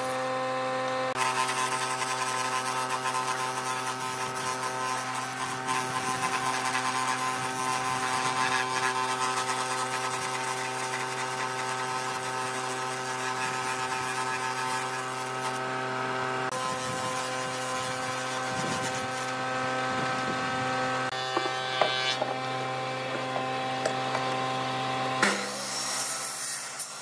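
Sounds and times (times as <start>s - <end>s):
table saw motor humming: 0.0s - 27.0s.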